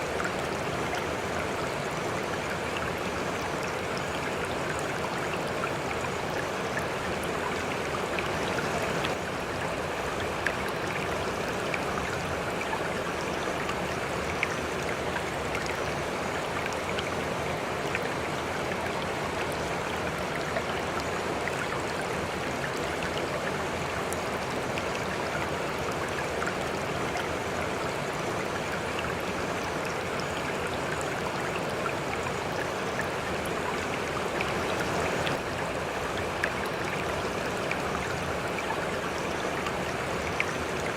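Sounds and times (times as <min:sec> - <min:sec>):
river water running: 0:00.0 - 0:40.9.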